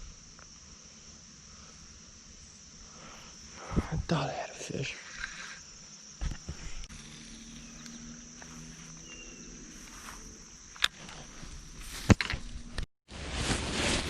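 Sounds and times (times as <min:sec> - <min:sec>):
faint high insect drone: 0:00.0 - 0:12.9.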